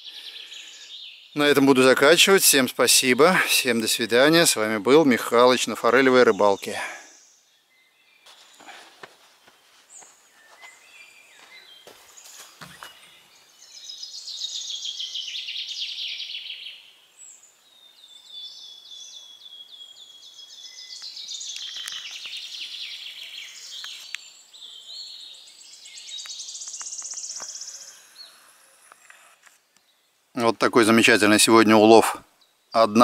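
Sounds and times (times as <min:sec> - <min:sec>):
songbirds trilling: 0:00.0 - 0:33.0.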